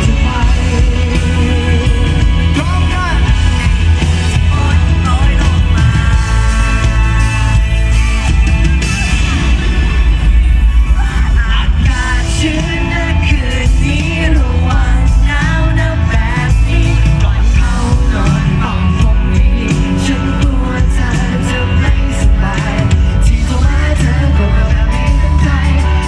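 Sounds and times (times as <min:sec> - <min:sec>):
live rock band with vocals: 0:00.0 - 0:26.0.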